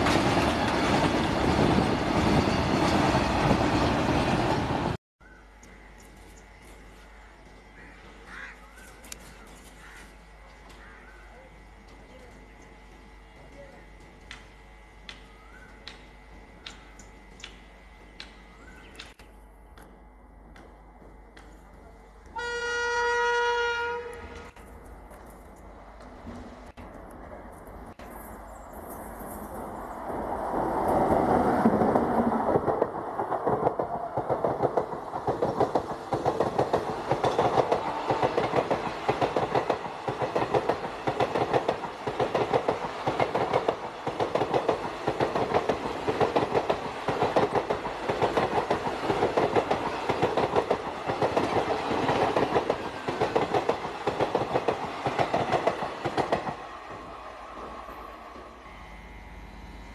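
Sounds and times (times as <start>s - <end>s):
electric locomotive passing: 0.0s - 8.8s, 10.2s - 59.9s.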